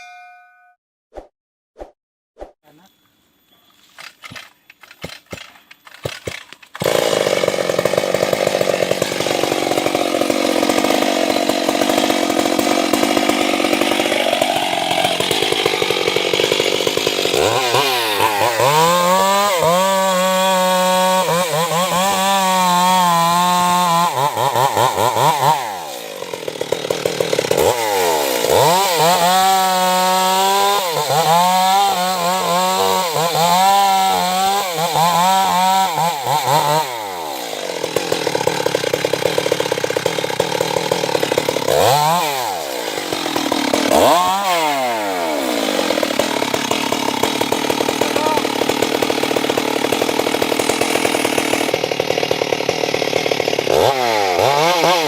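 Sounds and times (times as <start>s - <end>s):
chainsaw sawing into wood: 4.0s - 55.0s.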